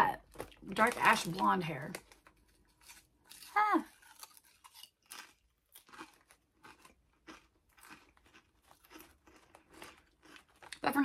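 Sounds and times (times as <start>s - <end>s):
chewing potato chips: 0.2s - 11.0s.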